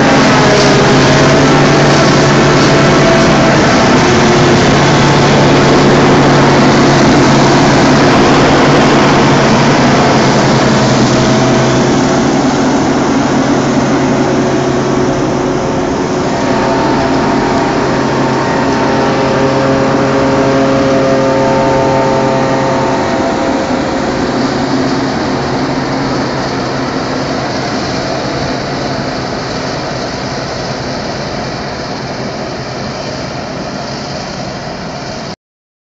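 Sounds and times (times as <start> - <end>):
forage harvester running: 0.0 - 35.2.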